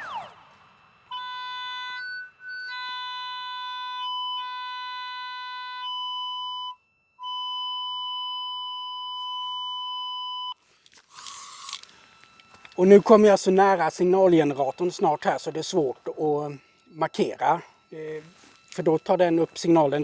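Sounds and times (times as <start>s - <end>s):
cable locator electronic tone: 0.0s - 20.0s.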